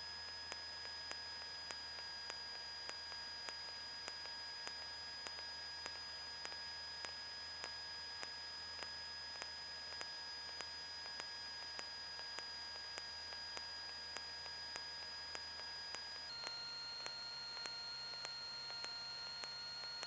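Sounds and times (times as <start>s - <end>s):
faint whine tones: 0.0s - 20.0s.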